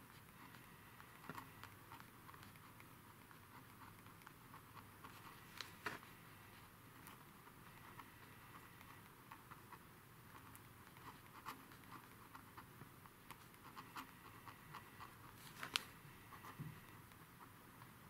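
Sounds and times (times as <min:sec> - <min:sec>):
pen scratching on paper: 0:00.0 - 0:12.7, 0:13.3 - 0:17.6.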